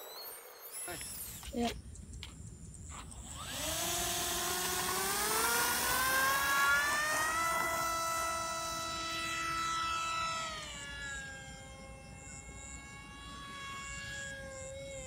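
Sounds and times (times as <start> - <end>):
model airplane motor whine: 2.9 - 15.0.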